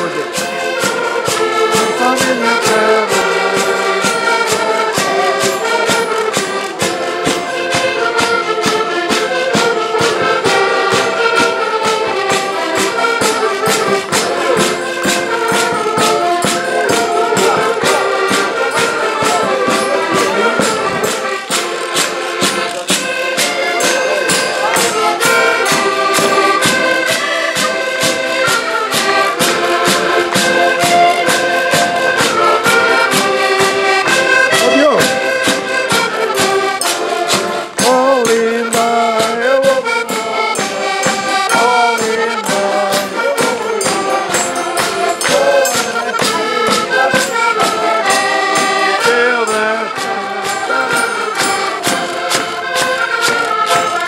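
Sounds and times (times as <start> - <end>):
fast percussion beat: 0.0 - 54.0
folk band accordions: 0.0 - 54.0.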